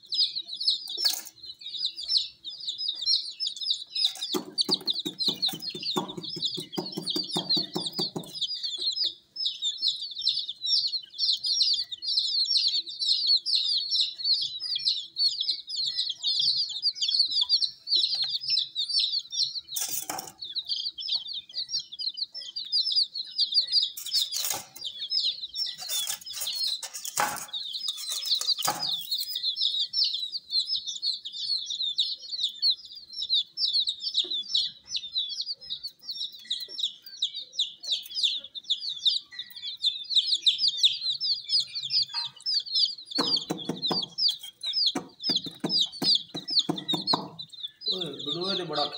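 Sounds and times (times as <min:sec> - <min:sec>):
baby chicks peeping: 0:00.0 - 0:48.9.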